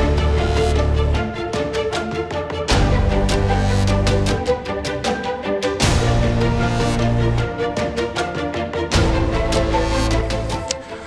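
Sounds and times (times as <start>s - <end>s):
drum beats: 0.0s - 10.8s.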